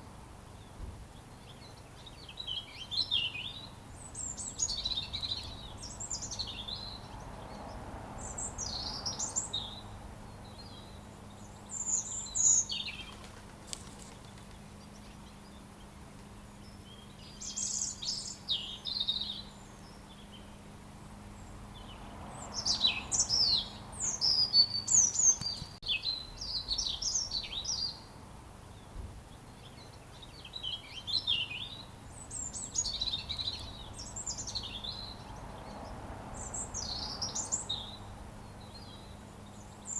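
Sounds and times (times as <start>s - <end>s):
robin singing: 0.6s - 13.2s, 13.9s - 39.9s.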